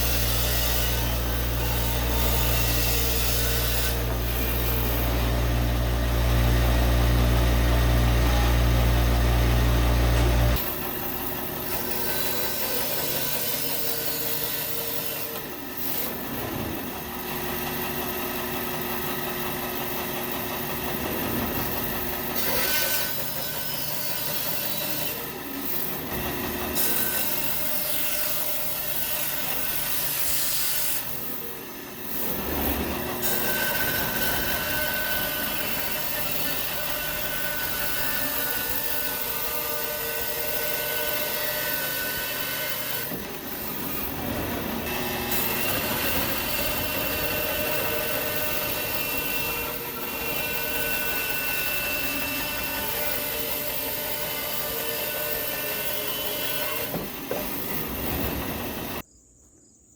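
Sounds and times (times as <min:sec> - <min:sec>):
bandsaw cutting through log: 0:00.0 - 0:59.0.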